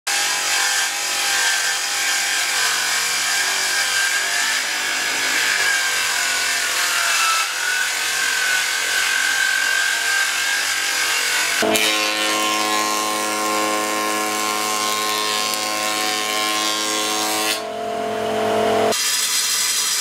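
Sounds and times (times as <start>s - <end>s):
table saw cutting wood: 0.1s - 20.0s.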